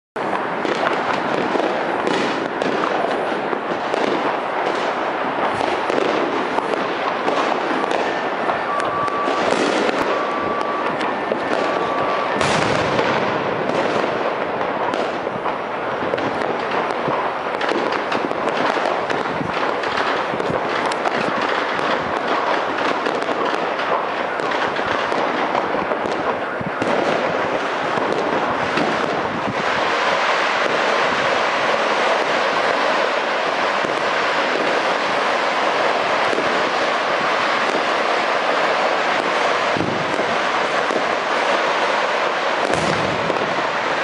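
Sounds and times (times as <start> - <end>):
fireworks crackling and banging: 0.2 - 44.0.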